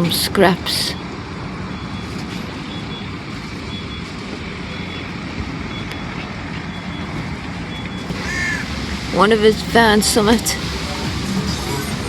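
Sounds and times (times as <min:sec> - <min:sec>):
low vehicle rumble: 0:00.0 - 0:12.0
reversing alarm beeping: 0:00.0 - 0:12.0.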